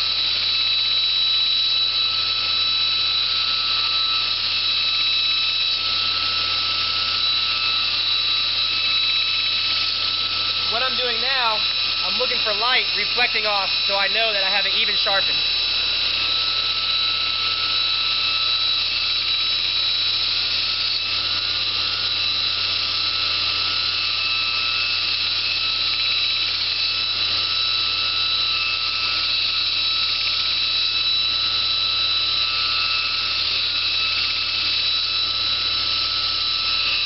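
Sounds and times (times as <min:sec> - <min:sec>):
belt grinder whine and hiss: 0:00.0 - 0:37.0.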